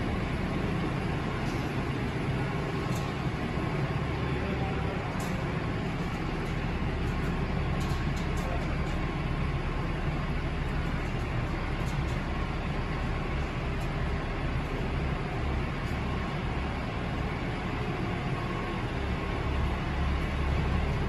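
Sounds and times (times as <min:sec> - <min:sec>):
heavy machine hum and rumble: 0:00.0 - 0:21.0.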